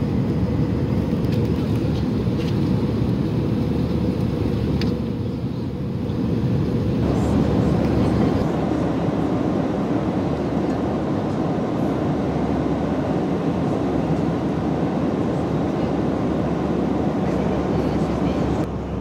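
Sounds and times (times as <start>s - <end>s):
airplane cabin noise: 0.0s - 19.0s.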